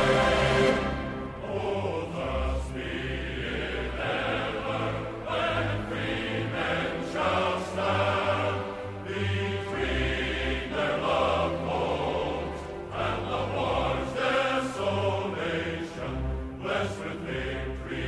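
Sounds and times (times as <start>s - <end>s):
choir-like voices: 0.0s - 18.0s.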